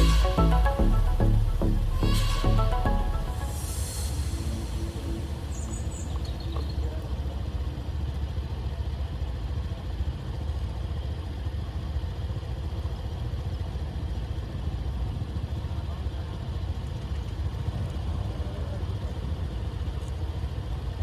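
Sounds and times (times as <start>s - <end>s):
vehicle engine rumble: 3.6s - 21.0s.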